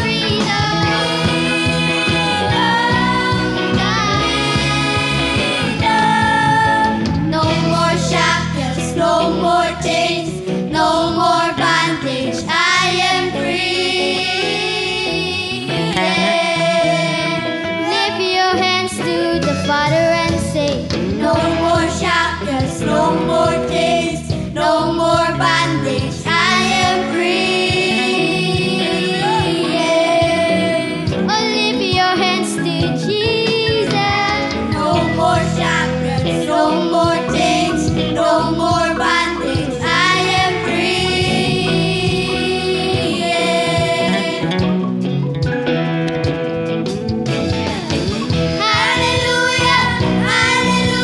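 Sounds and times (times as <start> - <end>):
children's choir singing: 0.0 - 18.5, 21.2 - 44.7, 48.6 - 51.0
instrumental backing: 0.0 - 51.0.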